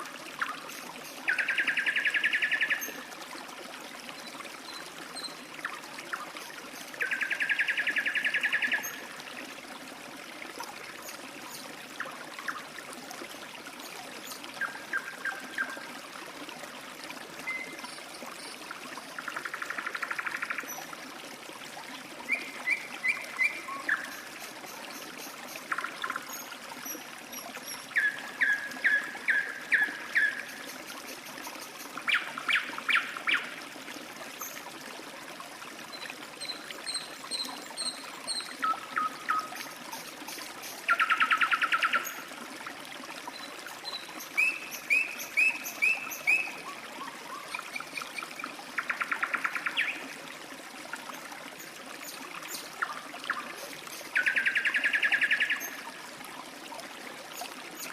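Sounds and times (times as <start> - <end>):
water trickling: 0.0 - 57.9.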